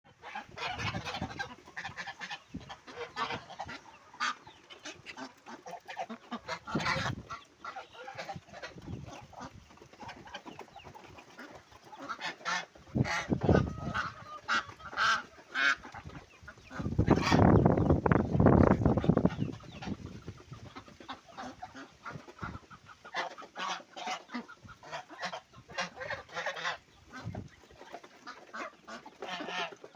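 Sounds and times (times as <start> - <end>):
chickens clucking: 0.1 - 29.9
long pitched poultry calls: 0.1 - 29.9.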